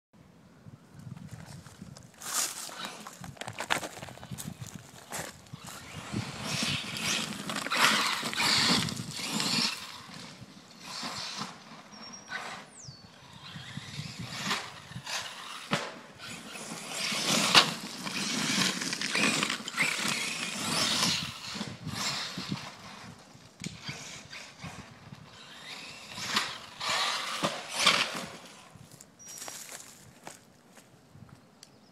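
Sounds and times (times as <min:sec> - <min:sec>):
toy truck tires churning dirt: 0:01.2 - 0:30.4.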